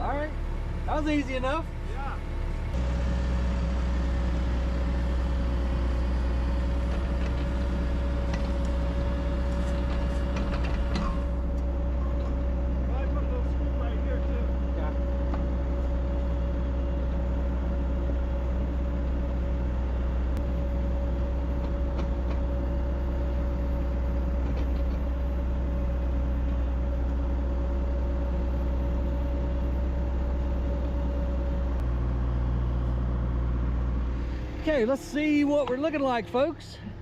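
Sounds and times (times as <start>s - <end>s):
excavator diesel engine humming: 0.0s - 37.0s.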